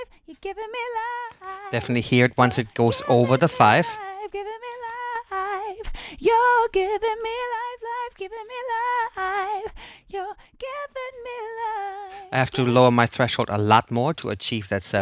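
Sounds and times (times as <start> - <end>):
woman singing with vibrato: 0.0 - 12.4.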